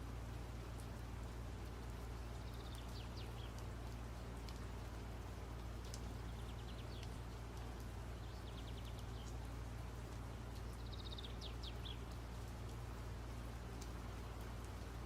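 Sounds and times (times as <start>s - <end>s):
small birds chirping: 1.6s - 15.0s.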